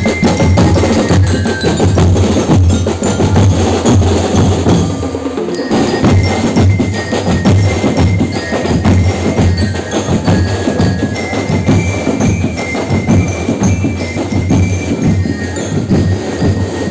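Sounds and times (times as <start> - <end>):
clanking metal and wood percussion: 0.0 - 16.9
percussion band drumming: 0.0 - 16.9.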